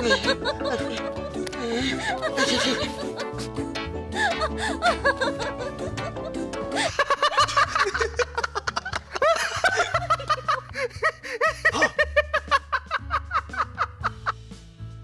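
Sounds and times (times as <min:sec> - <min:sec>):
men laughing hard: 0:00.0 - 0:14.4
background music with bass line: 0:00.0 - 0:15.0.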